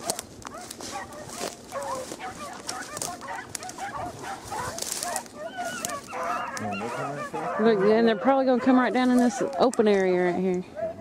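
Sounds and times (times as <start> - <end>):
distant hounds baying: 0.0 - 11.0.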